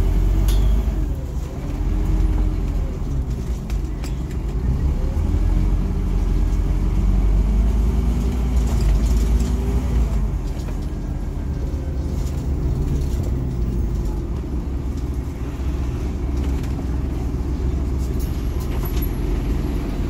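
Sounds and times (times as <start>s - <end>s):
bus engine drone: 0.0s - 20.0s
road rumble: 0.0s - 20.0s.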